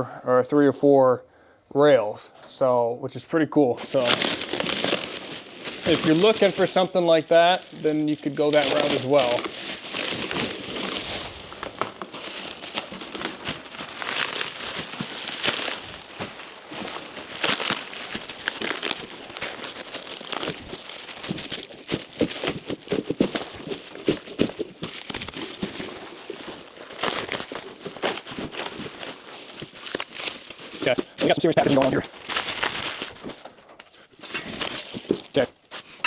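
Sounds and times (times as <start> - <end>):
packaging tearing: 3.8 - 33.6, 34.2 - 35.4
packaging crinkling: 3.8 - 36.0.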